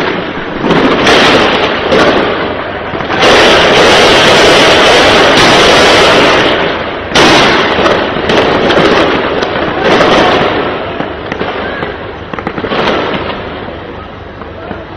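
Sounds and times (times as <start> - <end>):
gunshots: 0.0 - 13.5
explosions: 0.0 - 14.7.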